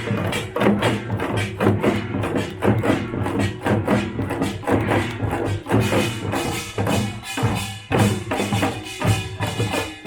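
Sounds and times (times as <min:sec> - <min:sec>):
drums beaten in fast rhythm: 0:00.0 - 0:10.0
ringing metal gongs: 0:00.0 - 0:10.0.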